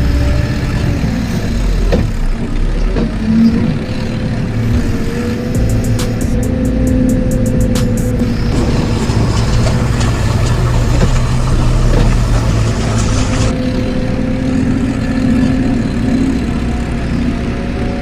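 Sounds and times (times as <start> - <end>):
machine engine idling: 0.0 - 18.0.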